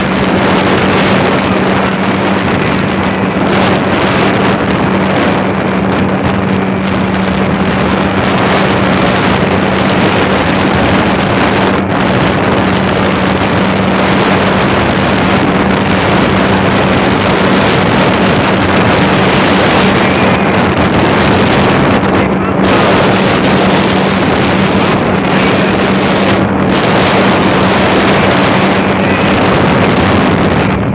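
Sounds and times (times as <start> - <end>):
speedboat engine hum: 0.0 - 30.9
wind and water rushing on microphone: 0.0 - 30.9.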